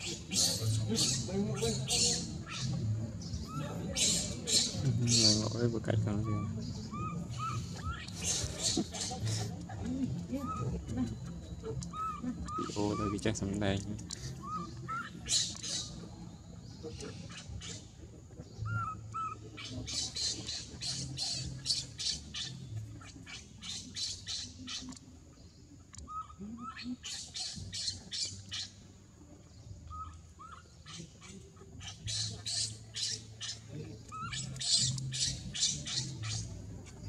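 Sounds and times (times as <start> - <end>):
high squeaking calls: 0.0 - 28.9, 29.8 - 37.0.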